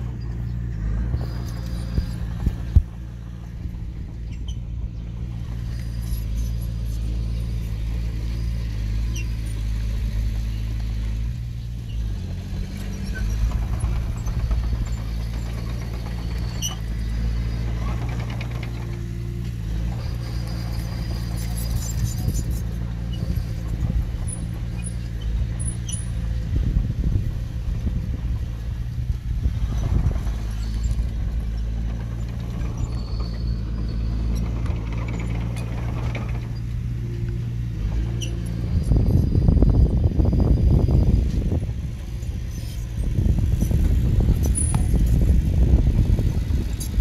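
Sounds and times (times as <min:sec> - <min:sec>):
metallic clicks and squeaks: 0:00.0 - 0:26.5, 0:27.3 - 0:47.0
diesel engine running: 0:00.0 - 0:47.0.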